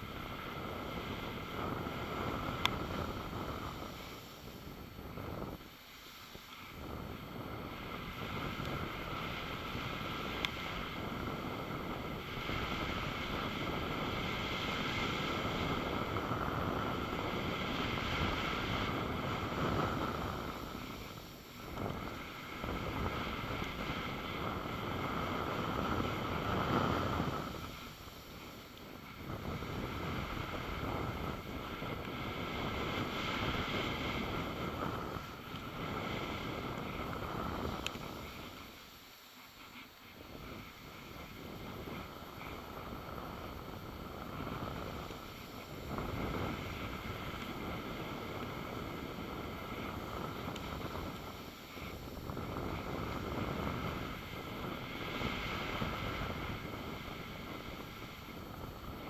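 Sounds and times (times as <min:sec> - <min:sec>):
wind on microphone: 0:00.0 - 0:38.8, 0:39.6 - 0:59.0
skis sliding on snow: 0:00.0 - 0:59.0.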